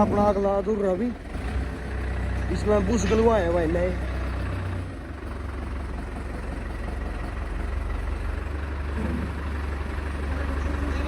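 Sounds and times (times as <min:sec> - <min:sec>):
engine idling with rattle: 0:00.0 - 0:11.0.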